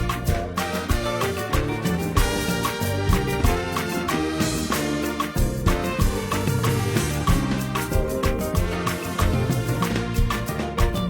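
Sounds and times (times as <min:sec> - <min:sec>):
live gospel band instrumental: 0:00.0 - 0:11.0
steady drum beat: 0:00.0 - 0:11.0.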